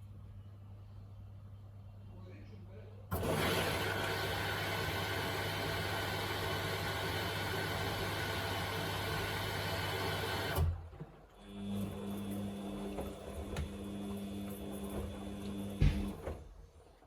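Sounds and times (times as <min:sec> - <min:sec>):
mains hum: 0:00.0 - 0:17.0
water rushing into washing machine: 0:03.1 - 0:17.0.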